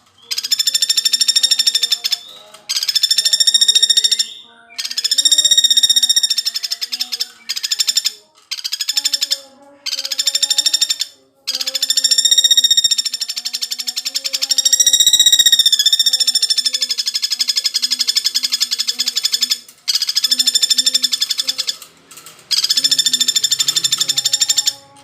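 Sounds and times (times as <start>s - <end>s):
woodpecker rattling trill calls: 0.0s - 25.0s.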